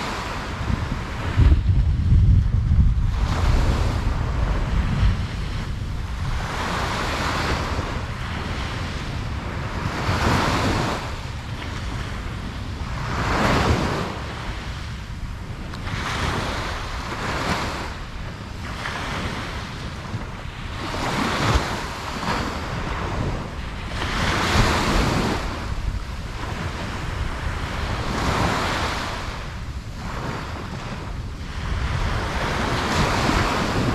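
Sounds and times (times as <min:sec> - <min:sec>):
ocean surf breaking on beach: 0:00.0 - 0:33.9
wind rumble on microphone: 0:00.0 - 0:33.9.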